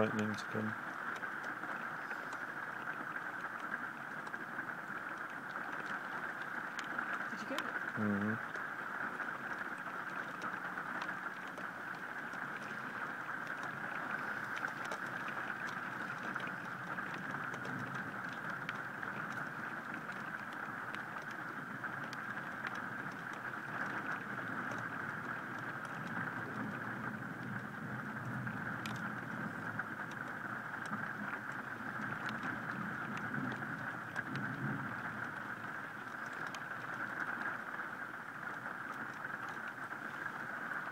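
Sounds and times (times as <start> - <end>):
heavy rain falling: 0.0 - 40.9
sharp ticks of raindrops: 0.0 - 40.9.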